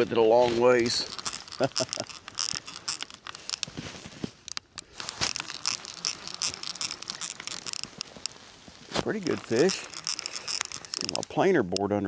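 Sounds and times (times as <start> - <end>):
fishing reel clicking: 0.0 - 11.9.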